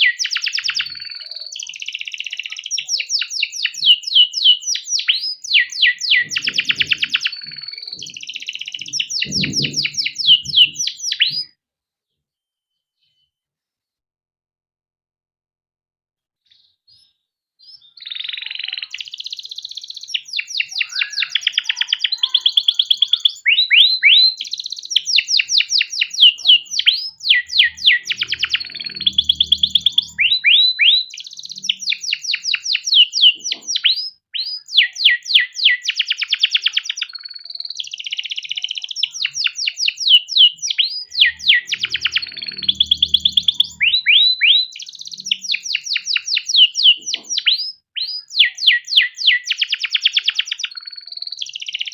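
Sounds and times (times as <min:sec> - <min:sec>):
canary singing trills: 0:00.0 - 0:11.5, 0:16.5 - 0:51.9.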